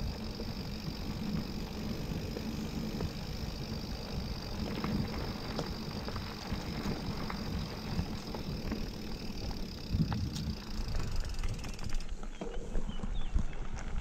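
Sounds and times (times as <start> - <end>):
bike clicks and rattles: 0.0 - 14.0
mountain bike rumbling on dirt: 0.0 - 14.0.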